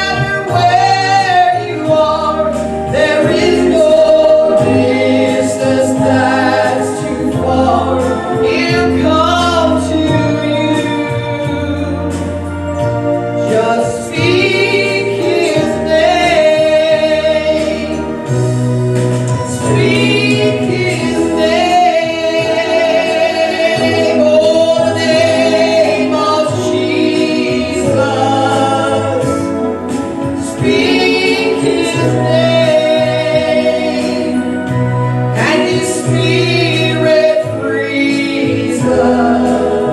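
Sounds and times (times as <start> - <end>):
choir singing gospel music: 0.0 - 39.9
steady bass line: 0.0 - 39.9.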